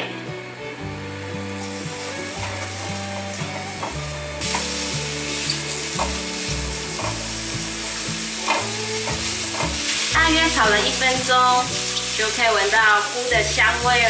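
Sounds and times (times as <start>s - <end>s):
mushrooms sizzling in a pan: 0.8s - 14.0s
spatula scraping a pan: 1.6s - 13.1s.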